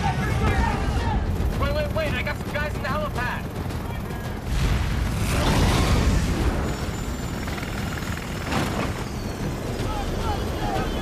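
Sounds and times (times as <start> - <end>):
rumble of fire: 0.0 - 11.0.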